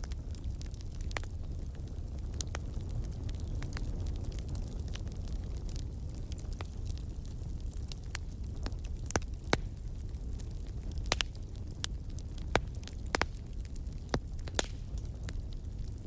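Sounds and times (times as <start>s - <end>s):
bonfire flames rumbling: 0.0s - 16.0s
burning wood crackling and popping: 0.0s - 16.0s.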